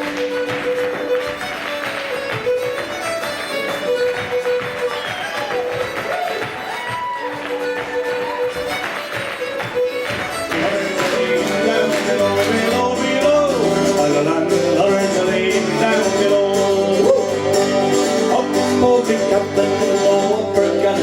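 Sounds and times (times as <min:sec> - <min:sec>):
guitar and bass accompaniment: 0:00.0 - 0:06.6, 0:09.5 - 0:21.0
fiddle melody: 0:00.0 - 0:21.0.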